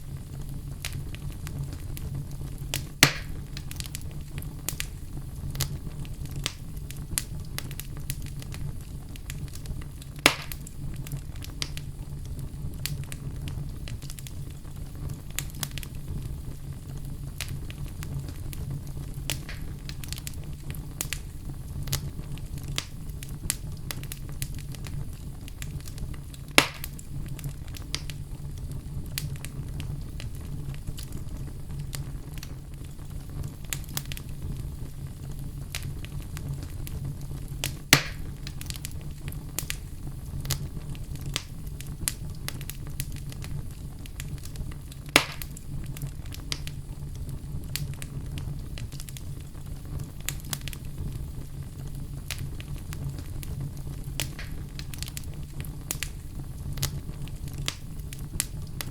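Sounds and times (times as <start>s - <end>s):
fire popping: 0.0s - 58.9s
low steady rumble: 0.0s - 58.9s
wood fire crackling: 0.0s - 58.9s.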